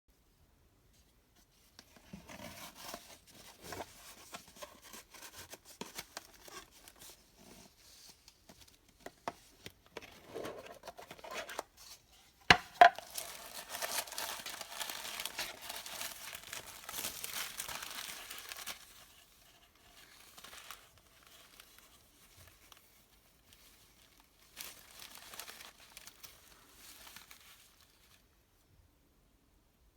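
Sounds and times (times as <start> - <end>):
packaging rustling and crinkling: 1.8 - 28.4.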